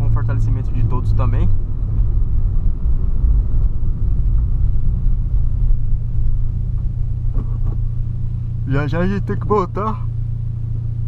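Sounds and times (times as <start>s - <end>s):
engine and road drone: 0.0s - 11.0s.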